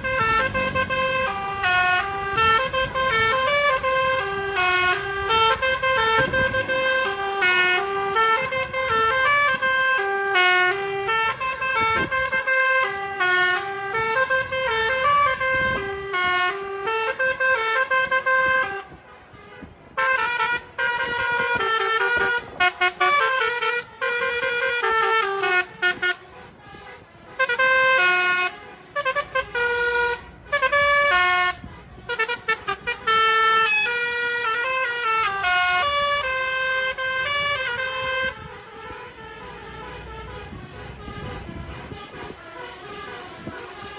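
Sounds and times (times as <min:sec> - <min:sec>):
musical bus horn playing a tune: 0:00.0 - 0:43.9.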